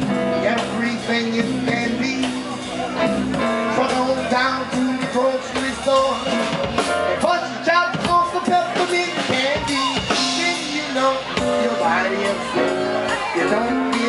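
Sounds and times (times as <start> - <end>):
drum kit: 0.0 - 14.0
jazz band playing: 0.0 - 14.0
man singing into microphone: 0.0 - 14.0.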